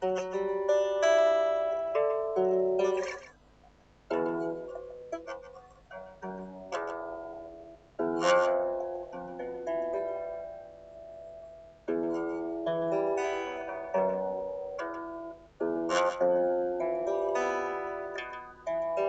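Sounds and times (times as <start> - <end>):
guitar chords and notes: 0.0 - 19.0.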